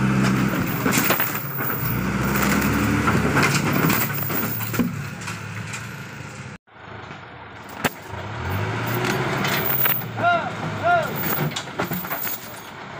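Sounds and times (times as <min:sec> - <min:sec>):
truck engine revving: 0:00.0 - 0:11.9.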